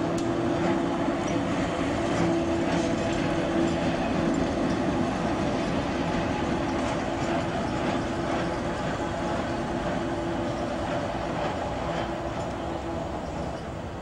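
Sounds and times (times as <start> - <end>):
electric tram rumbling past: 0.0 - 14.0.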